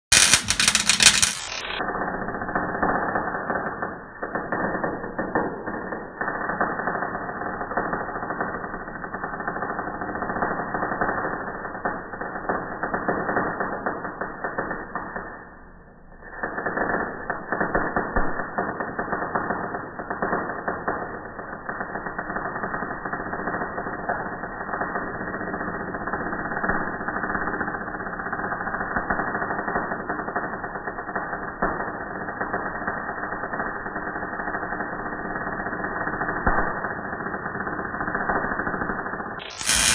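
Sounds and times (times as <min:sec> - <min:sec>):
slowed welding arc crackle: 0:00.0 - 0:39.9.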